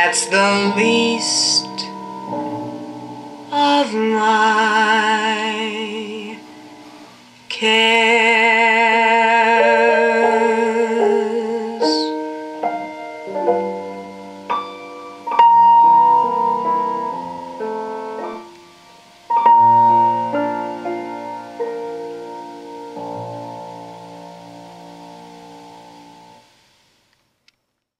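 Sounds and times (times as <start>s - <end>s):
piano chords: 0.0s - 26.5s.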